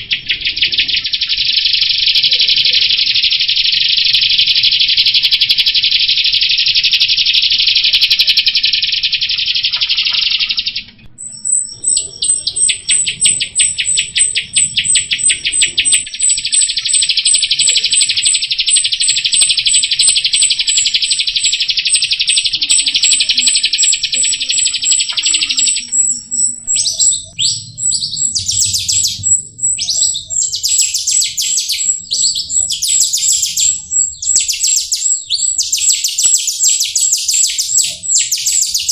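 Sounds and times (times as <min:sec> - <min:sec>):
bird chirps: 0:00.0 - 0:38.9
starling trilling: 0:00.0 - 0:38.9.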